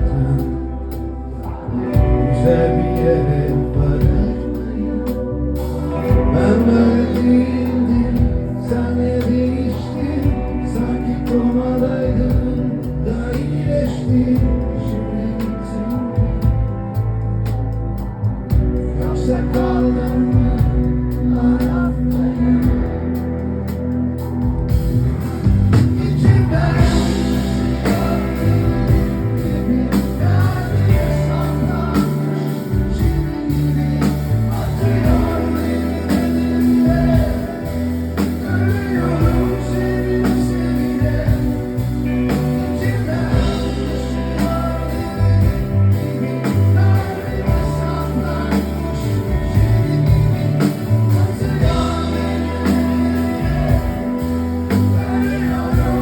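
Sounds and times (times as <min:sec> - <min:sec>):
person singing: 0:00.0 - 0:17.0, 0:25.2 - 0:56.0
live rock band playing: 0:00.0 - 0:56.0.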